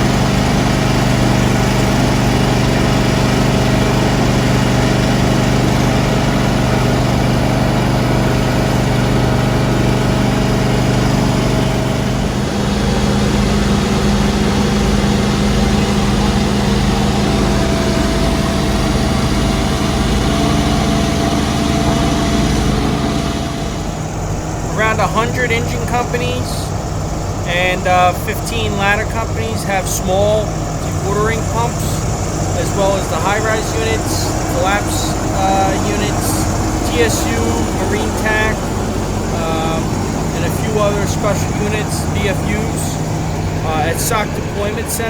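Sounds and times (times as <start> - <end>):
engine running steadily: 0.0 - 45.0.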